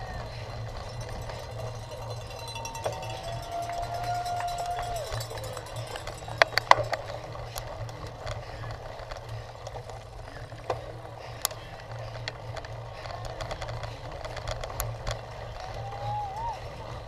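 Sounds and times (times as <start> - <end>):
bike rattling and clicking: 0.0 - 17.0.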